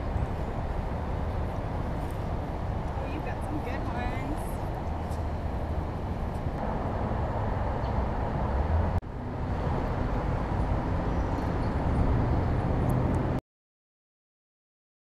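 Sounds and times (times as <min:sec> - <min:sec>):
low rumbling city noise: 0:00.0 - 0:13.4.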